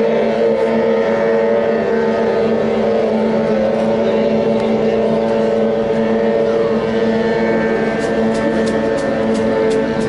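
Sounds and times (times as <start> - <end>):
outboard boat engines droning: 0.0 - 10.0.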